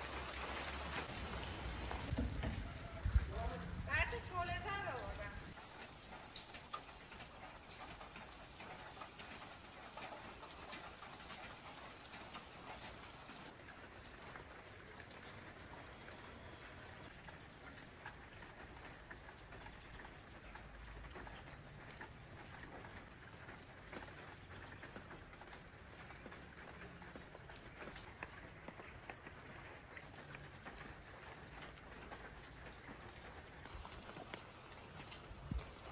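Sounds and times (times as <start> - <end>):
faint rain falling: 0.0 - 35.9
raindrops ticking on surfaces: 0.0 - 35.9.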